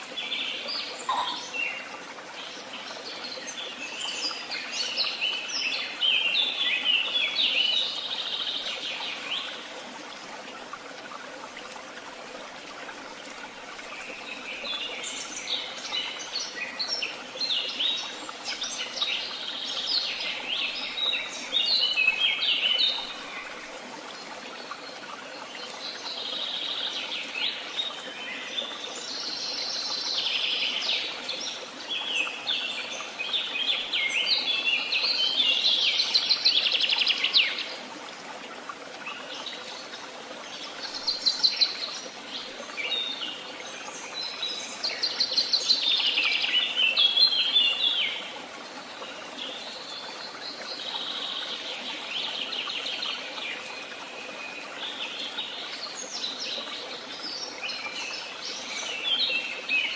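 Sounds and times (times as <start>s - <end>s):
songbirds singing: 0.0s - 9.8s, 12.9s - 37.9s, 38.9s - 59.9s.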